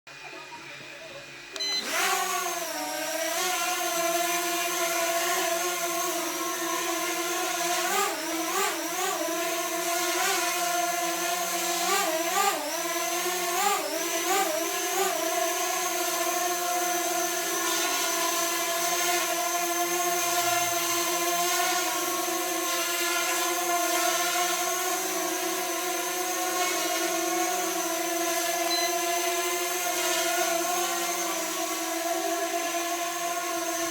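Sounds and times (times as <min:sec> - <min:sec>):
drone propellers whining: 0:01.3 - 0:33.9.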